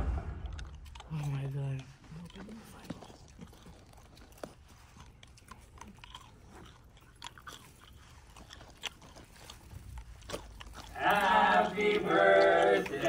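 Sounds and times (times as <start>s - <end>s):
low steady hum: 0.0s - 13.0s
person chewing a snack: 0.3s - 13.0s.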